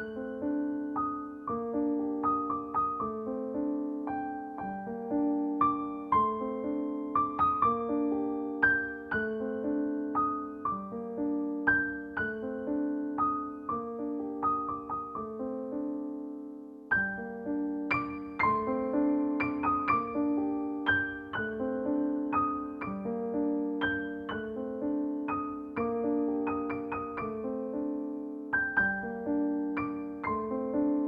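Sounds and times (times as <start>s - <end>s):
gentle piano melody: 0.0s - 31.0s.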